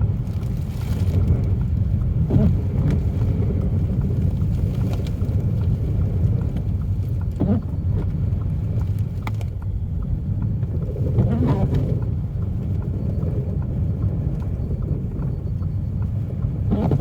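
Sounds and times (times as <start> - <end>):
car engine and tyres rumbling: 0.0 - 17.0
faint ticks: 0.0 - 17.0.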